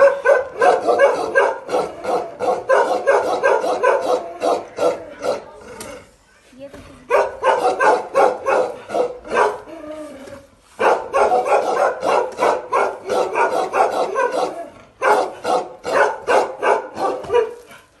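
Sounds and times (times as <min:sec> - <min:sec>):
dog barking aggressively: 0:00.0 - 0:05.5, 0:07.1 - 0:09.7, 0:10.8 - 0:17.9.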